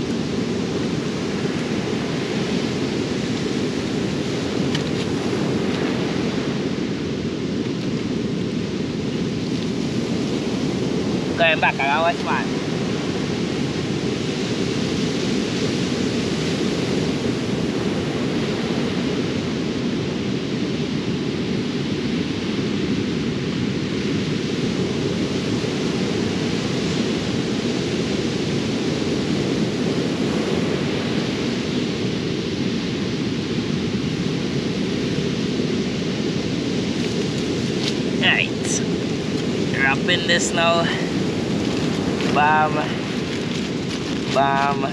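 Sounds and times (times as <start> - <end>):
ocean surf breaking: 0.0 - 21.9, 22.7 - 44.9.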